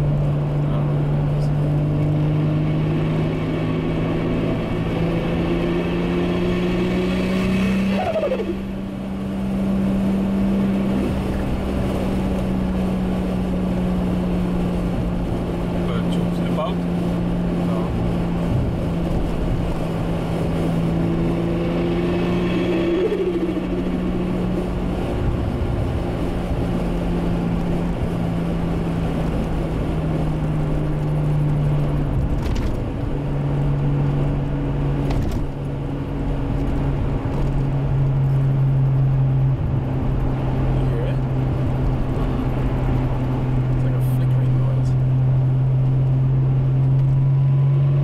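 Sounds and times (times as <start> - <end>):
turbocharged car engine running: 0.0 - 48.0.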